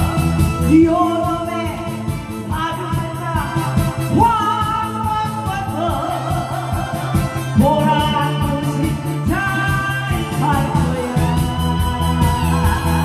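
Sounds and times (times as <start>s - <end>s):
instrumental music with steady beat: 0.0s - 13.0s.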